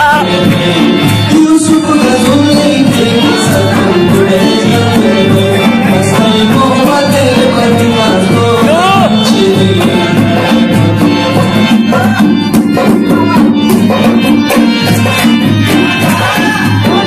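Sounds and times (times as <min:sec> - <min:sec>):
dhol drum beat: 0:00.0 - 0:17.0
harmonium melody: 0:00.0 - 0:17.0.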